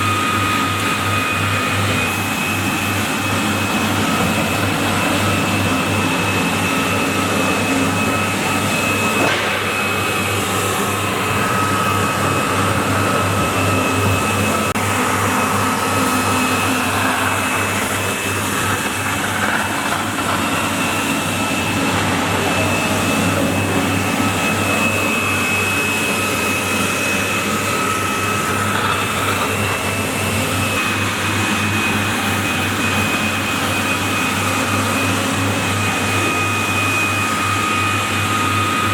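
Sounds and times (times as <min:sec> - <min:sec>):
floor scrubber motor running: 0:00.0 - 0:38.9
high suction motor whine: 0:00.0 - 0:38.9.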